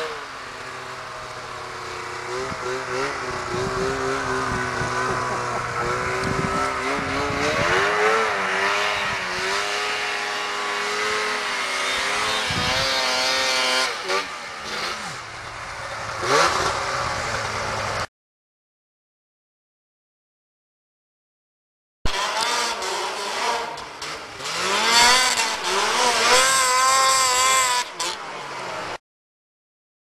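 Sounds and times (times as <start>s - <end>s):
snowmobile engines revving: 0.0s - 18.1s, 22.1s - 29.0s.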